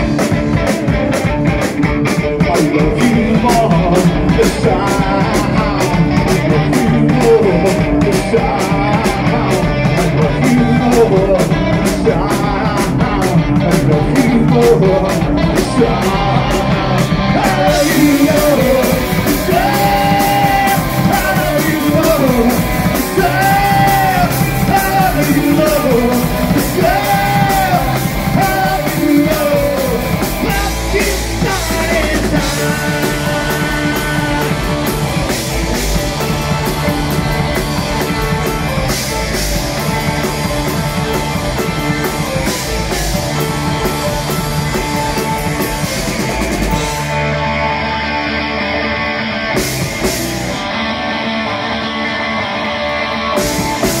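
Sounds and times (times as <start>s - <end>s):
person singing: 0.0s - 49.0s
punk rock band playing: 0.0s - 54.0s.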